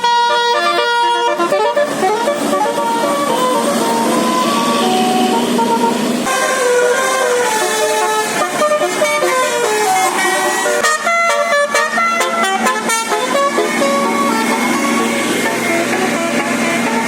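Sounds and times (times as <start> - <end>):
bus melody horn: 0.0 - 17.0.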